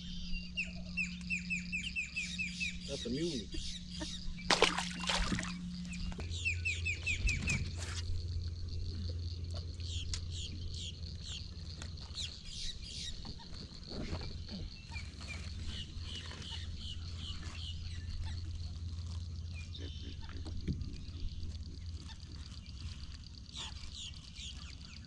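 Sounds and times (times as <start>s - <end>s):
birds chirping: 0.0s - 25.0s
steady low hum: 0.0s - 25.0s.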